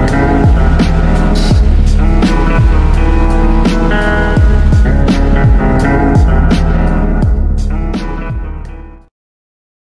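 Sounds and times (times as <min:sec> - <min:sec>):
computer song with drum beat: 0:00.0 - 0:08.9.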